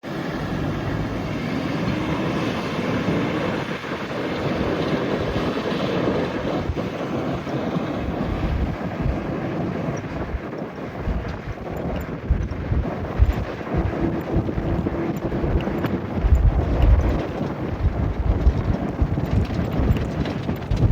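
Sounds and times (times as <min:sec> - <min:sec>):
vehicle engine and road noise: 0:00.0 - 0:20.9.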